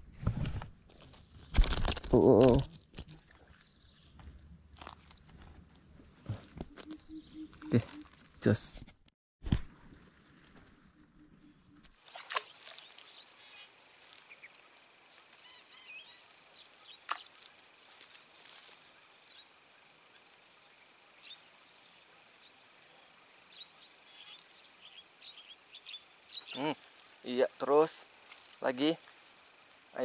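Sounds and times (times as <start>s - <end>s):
insect chorus buzzing: 0.0s - 8.6s, 9.7s - 30.0s.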